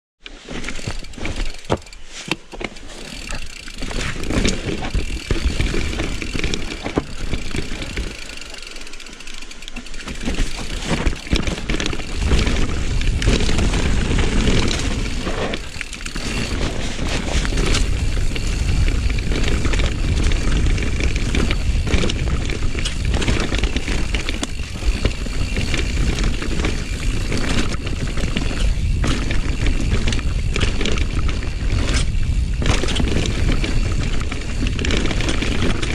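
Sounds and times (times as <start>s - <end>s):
bike tyres rolling on dirt: 0.2s - 35.9s
bike chain and frame rattling: 0.3s - 35.9s.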